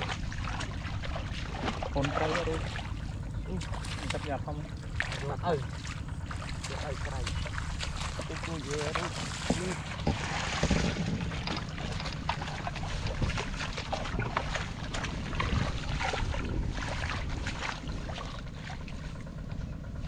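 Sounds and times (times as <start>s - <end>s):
hands splashing in muddy water: 0.0s - 19.3s
wind buffeting microphone: 0.0s - 20.0s.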